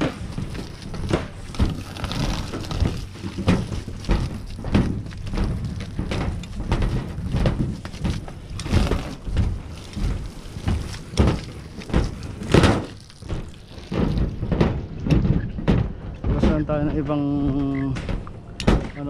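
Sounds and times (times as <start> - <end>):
boots walking on metal roof: 0.0 - 19.0
wind rumble on microphone: 0.0 - 19.0.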